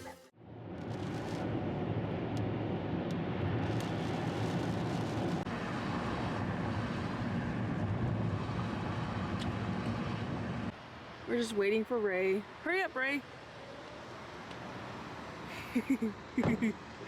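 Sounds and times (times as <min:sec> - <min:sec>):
low rumble of vehicle noise: 0:00.0 - 0:17.0.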